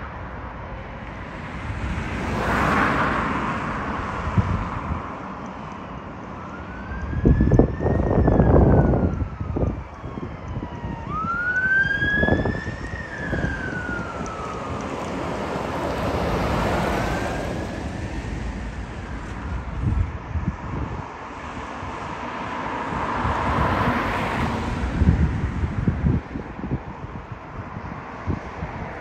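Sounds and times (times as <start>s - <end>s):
emergency vehicle siren wailing: 3.8s - 29.0s.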